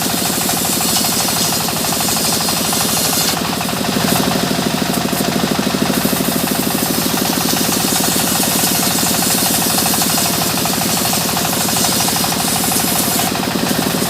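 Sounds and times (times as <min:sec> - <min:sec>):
sawmill machinery pulsing: 0:00.0 - 0:14.0.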